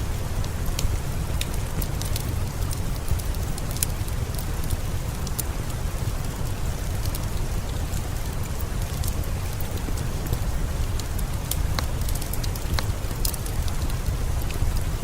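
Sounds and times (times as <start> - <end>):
steady rain falling: 0.0 - 15.0
wood fire crackling: 0.0 - 15.0.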